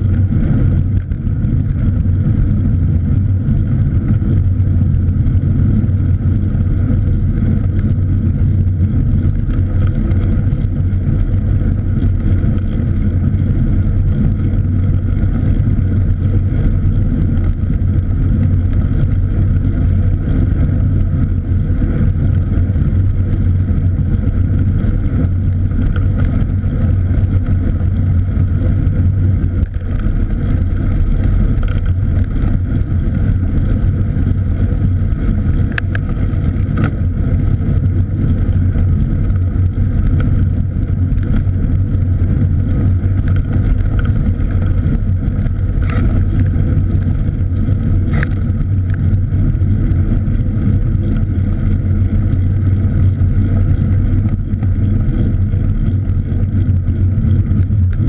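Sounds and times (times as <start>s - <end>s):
wind and road noise rumble: 0.0s - 58.0s.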